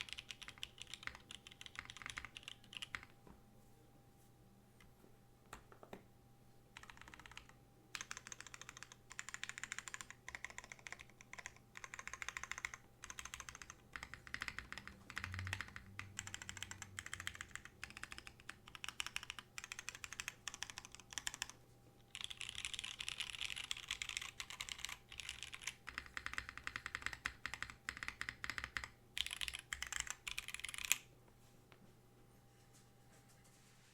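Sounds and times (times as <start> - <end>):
typing on mechanical keyboard: 0.0 - 3.1, 6.8 - 31.0.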